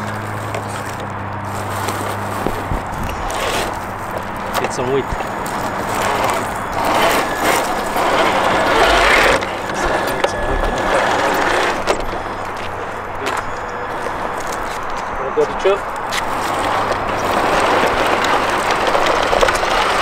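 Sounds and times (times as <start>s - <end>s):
electric motor whirring: 0.0s - 20.0s.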